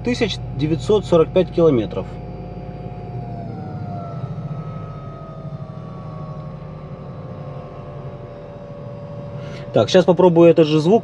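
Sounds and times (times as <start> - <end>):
electric motor whining: 0.0 - 11.0
low rumble inside car: 0.0 - 11.0.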